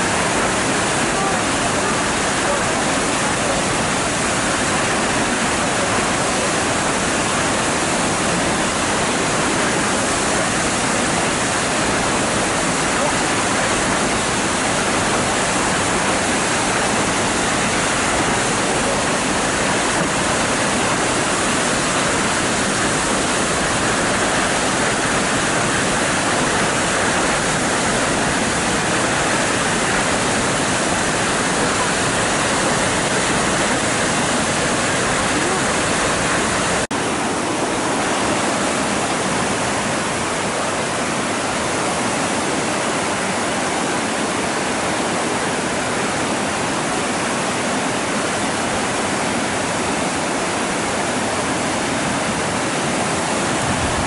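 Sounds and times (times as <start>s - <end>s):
waterfall rushing into a pool: 0.0s - 54.0s.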